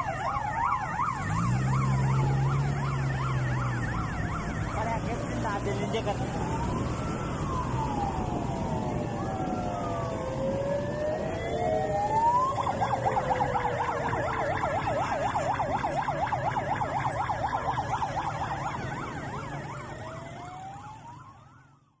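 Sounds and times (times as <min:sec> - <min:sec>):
siren yelping: 0:00.0 - 0:22.0
sirens wailing: 0:00.0 - 0:22.0
traffic rumble: 0:00.0 - 0:22.0.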